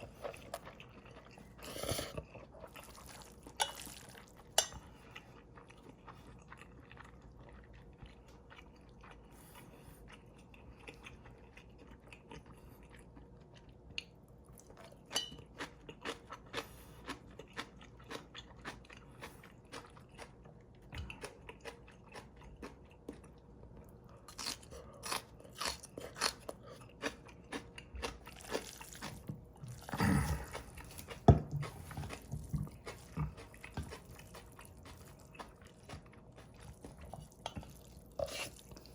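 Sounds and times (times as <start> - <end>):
person chewing noodles: 0.0 - 38.9.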